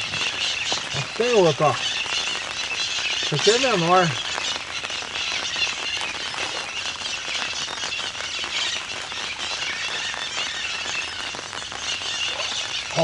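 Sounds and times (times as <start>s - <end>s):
rain falling on water: 0.0s - 13.0s.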